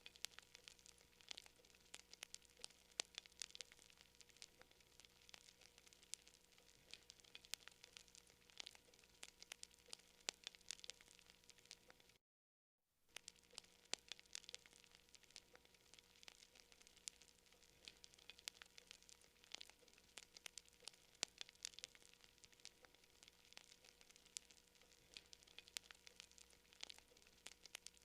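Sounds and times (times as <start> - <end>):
campfire crackling: 0.0 - 12.2, 13.1 - 28.0.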